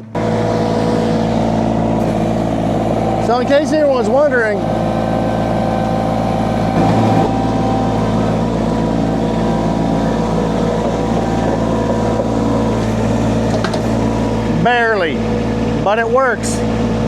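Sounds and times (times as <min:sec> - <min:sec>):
small diesel engine running: 0:00.0 - 0:17.0.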